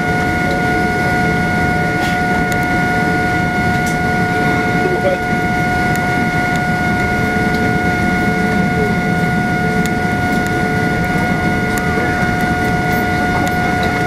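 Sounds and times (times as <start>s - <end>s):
jet engine idling whine: 0.0s - 14.0s.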